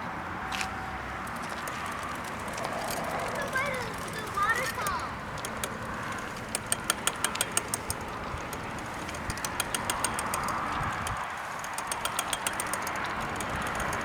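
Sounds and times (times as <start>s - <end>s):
steady rushing background noise: 0.2s - 14.0s
light sharp clicks: 0.5s - 14.0s.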